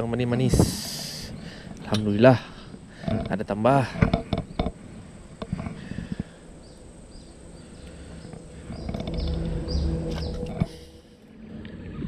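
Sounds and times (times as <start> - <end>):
boat engine humming: 0.0 - 12.0
faint river-bank ambience: 0.0 - 12.0.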